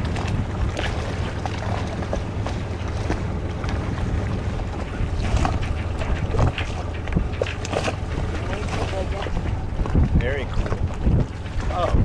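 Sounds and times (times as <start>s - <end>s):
short splashes: 0.0s - 12.0s
water slapping boat hull: 0.0s - 12.0s
wind rumbling on microphone: 0.0s - 12.0s.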